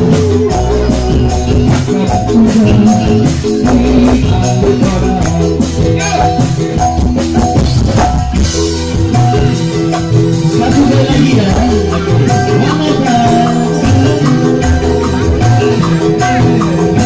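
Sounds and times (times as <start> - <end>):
live band music over loudspeakers: 0.0 - 17.0.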